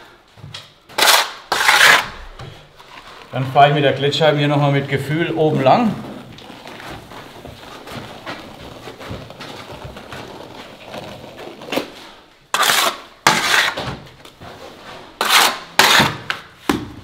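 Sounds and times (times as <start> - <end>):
float scraping wet plaster: 0.9 - 16.5.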